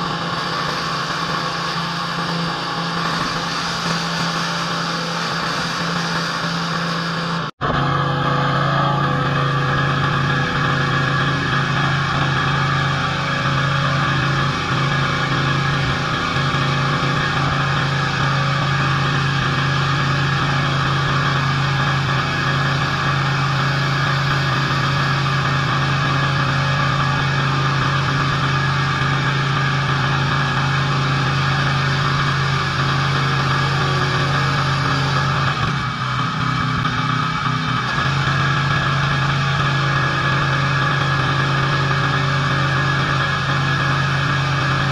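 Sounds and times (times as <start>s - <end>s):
pressure washer engine running: 0.0s - 44.9s.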